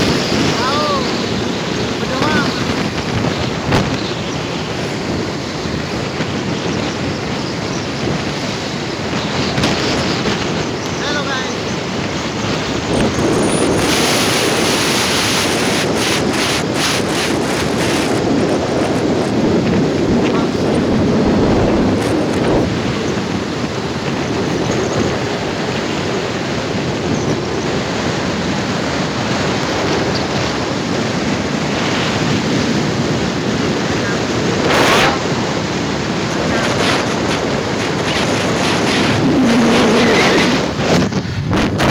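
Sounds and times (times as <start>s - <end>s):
road noise: 0.0s - 41.9s
wind rushing over microphone: 0.0s - 41.9s.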